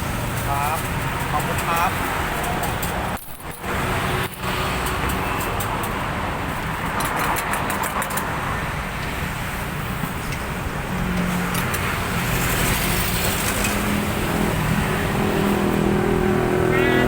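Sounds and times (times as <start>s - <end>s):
road traffic from passing cars: 0.0s - 17.0s.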